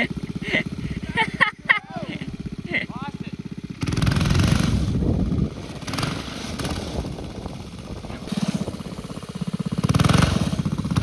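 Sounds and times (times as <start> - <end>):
mini bike engine revving: 0.0 - 11.0.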